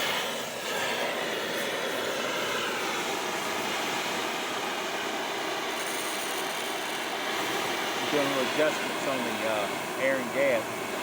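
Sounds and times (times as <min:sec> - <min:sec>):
cutting torch flame hissing: 0:00.0 - 0:11.0.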